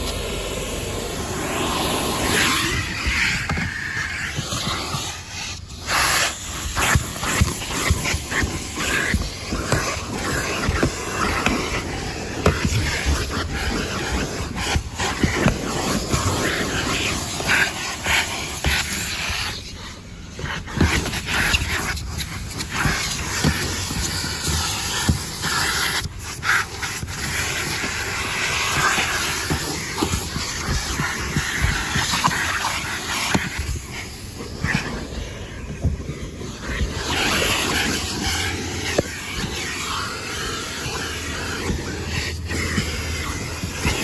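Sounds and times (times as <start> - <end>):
vacuum suction rushing through hose: 0.0 - 44.0.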